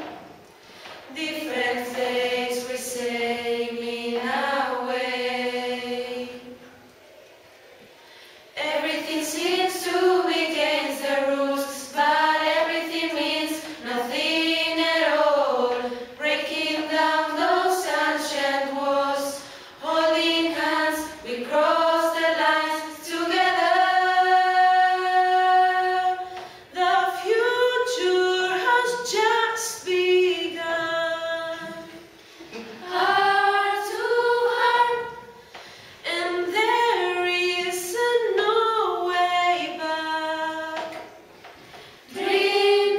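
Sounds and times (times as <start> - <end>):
young voices singing in unison: 0.0 - 6.9, 8.5 - 42.9.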